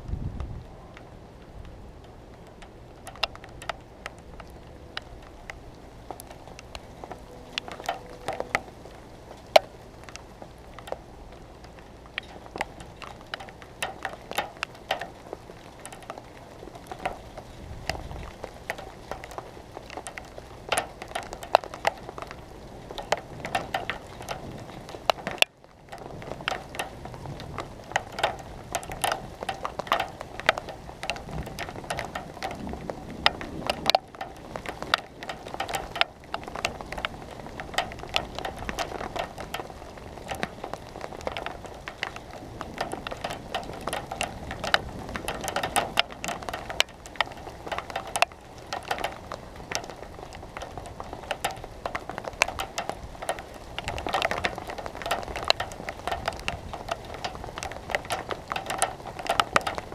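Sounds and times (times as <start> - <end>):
rain hiss: 0.0 - 59.9
raindrops ticking on hard surface: 0.0 - 59.9.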